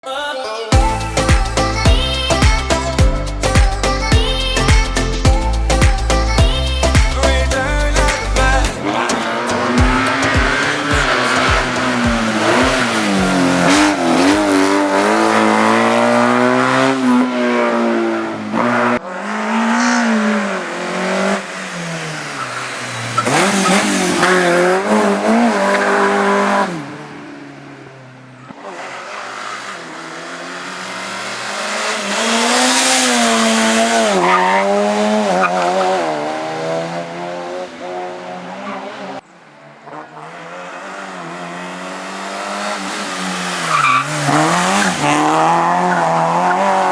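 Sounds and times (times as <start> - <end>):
race car engine revving: 6.2 - 46.9.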